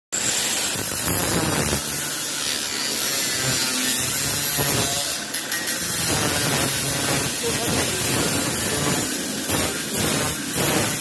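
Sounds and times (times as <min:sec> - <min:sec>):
small power tool humming: 0:00.2 - 0:11.0.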